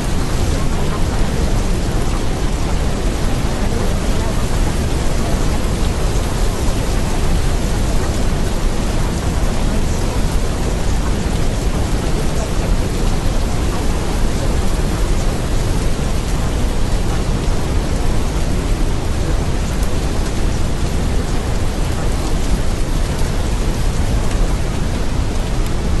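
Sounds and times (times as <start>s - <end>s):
rain hiss: 0.0s - 26.0s.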